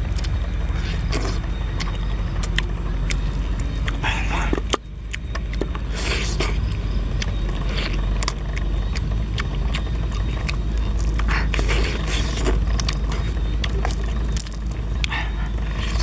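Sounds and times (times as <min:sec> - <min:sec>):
chewing: 0:00.0 - 0:16.0
low rumble: 0:00.0 - 0:16.0.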